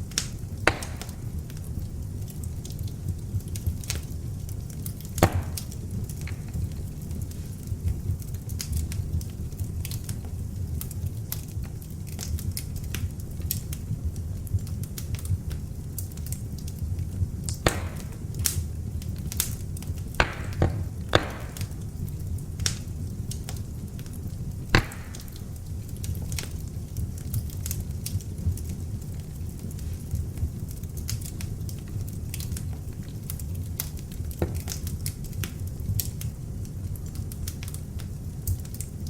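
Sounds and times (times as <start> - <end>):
fire crackling and popping: 0.0 - 39.0
logs burning in fireplace: 0.0 - 39.0.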